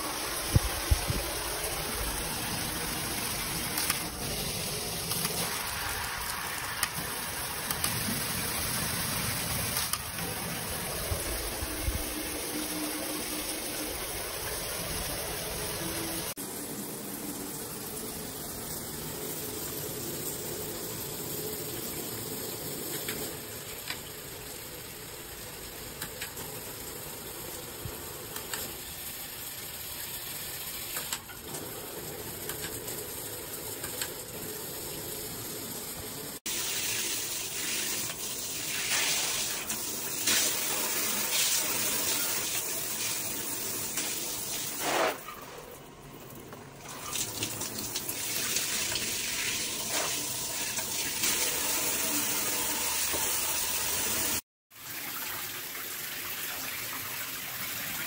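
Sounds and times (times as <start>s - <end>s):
shower water spraying: 0.0s - 45.7s, 46.8s - 54.4s.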